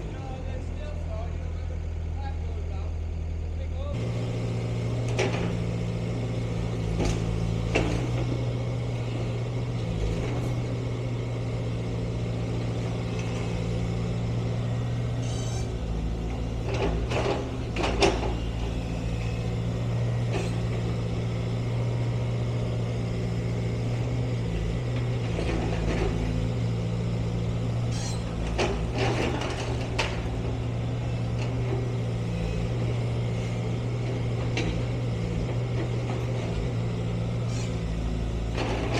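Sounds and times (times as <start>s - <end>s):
heavy engine humming: 0.0s - 38.9s.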